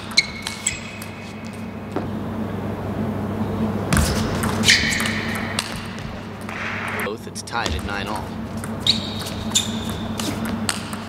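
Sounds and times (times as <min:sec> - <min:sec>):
shoes squeaking on floor: 0:00.0 - 0:02.1, 0:04.0 - 0:10.9
steady hum: 0:00.0 - 0:11.0.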